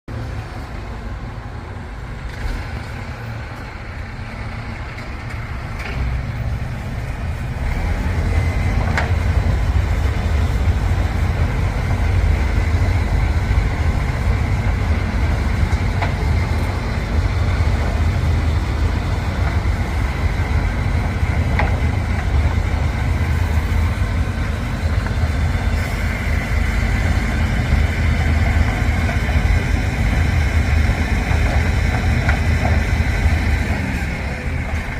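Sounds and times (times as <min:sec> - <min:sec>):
refuse truck rumbling: 0:00.1 - 0:34.9.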